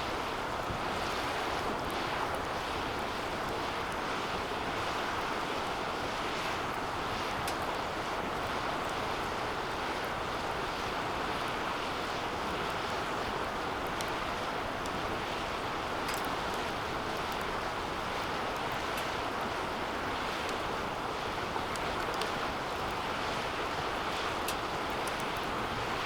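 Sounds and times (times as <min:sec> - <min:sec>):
fire crackling: 0:00.0 - 0:26.0
fire roaring: 0:00.0 - 0:26.0.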